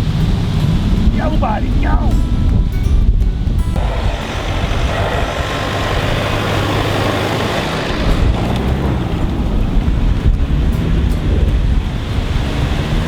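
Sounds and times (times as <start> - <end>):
engine rumble: 0.0 - 13.0
tyre and wind noise: 0.0 - 13.0.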